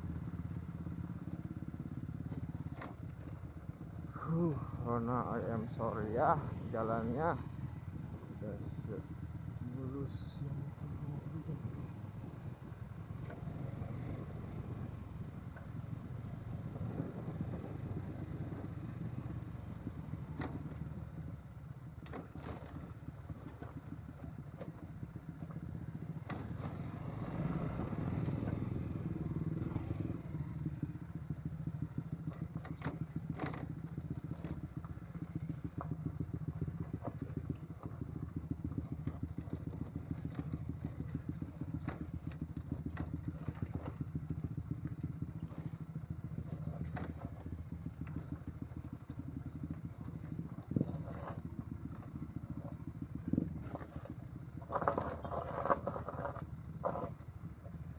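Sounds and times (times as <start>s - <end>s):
knocks and rattles of bike: 0.0s - 57.9s
motorcycle engine running: 0.0s - 57.9s.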